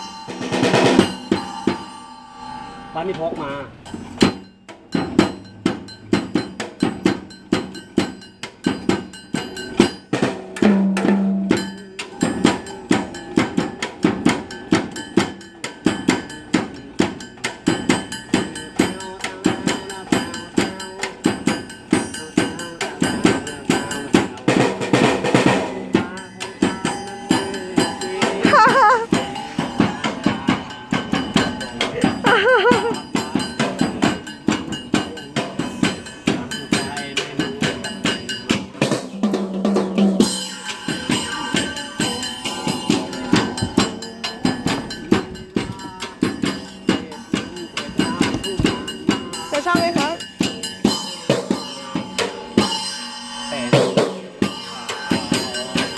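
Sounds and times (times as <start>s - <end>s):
cymbal crash: 0.0s - 19.0s, 24.6s - 55.9s
drums played in fast strokes: 0.0s - 55.9s.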